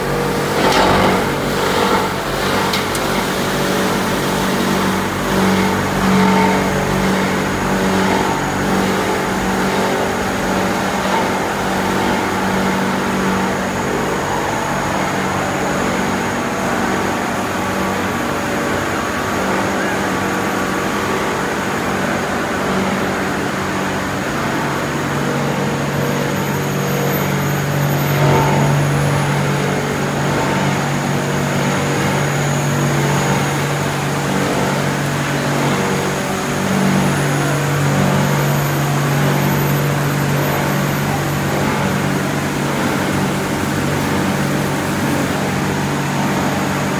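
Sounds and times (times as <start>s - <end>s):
machinery humming with hiss: 0.0s - 46.9s.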